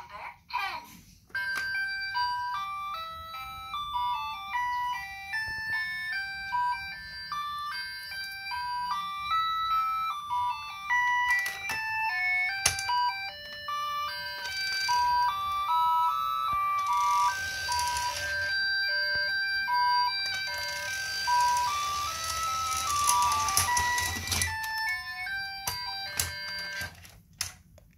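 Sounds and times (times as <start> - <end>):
toy robot beeping tune: 1.4 - 27.0.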